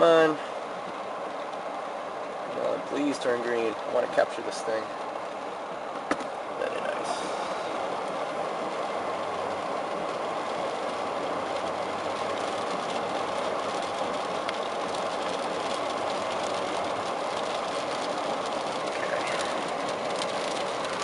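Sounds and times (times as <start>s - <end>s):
car running noise: 0.0s - 21.0s
rain on a car roof: 0.0s - 21.0s
ticks of raindrops: 0.0s - 21.0s.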